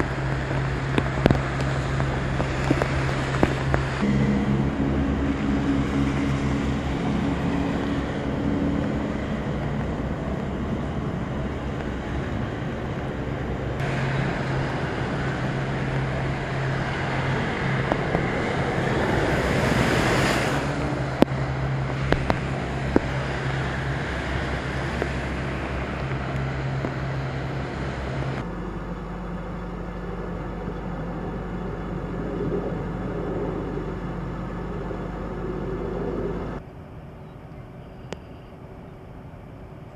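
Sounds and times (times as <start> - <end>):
car splashing through floodwater: 0.0 - 36.6
wash of water and rain: 0.0 - 36.6
low engine hum: 0.0 - 39.9.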